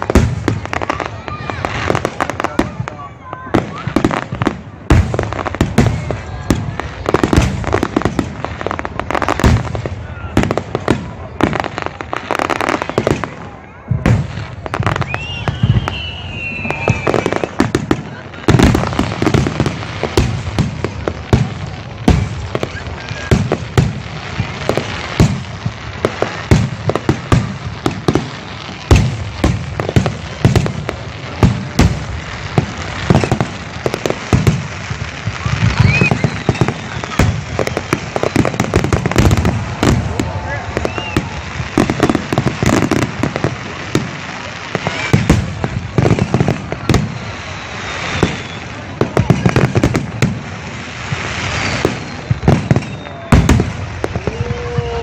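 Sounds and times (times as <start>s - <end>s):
fireworks booming: 0.0s - 55.0s
fireworks crackle: 0.0s - 55.0s.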